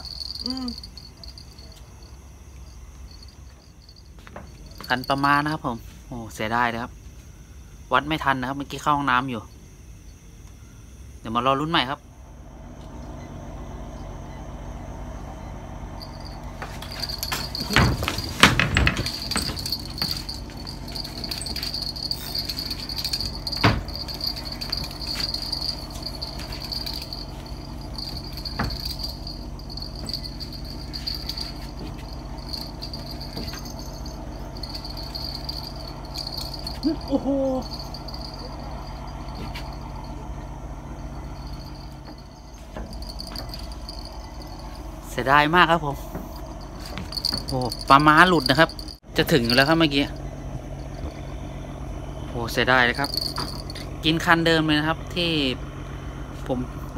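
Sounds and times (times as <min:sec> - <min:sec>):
night insects trilling: 0:00.0 - 0:56.8
steady low hum: 0:00.0 - 0:56.9.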